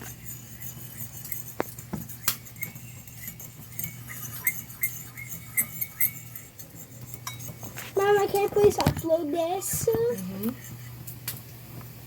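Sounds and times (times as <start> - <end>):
utensil clinking against bowl: 0.0 - 11.4.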